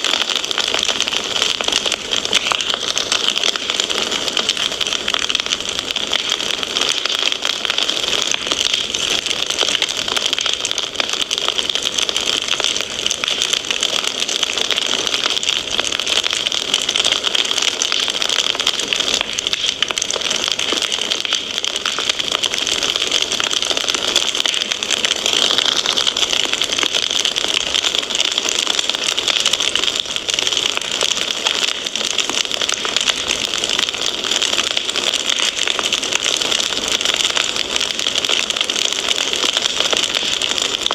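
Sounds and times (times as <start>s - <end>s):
fireplace fire crackling: 0.0s - 40.9s.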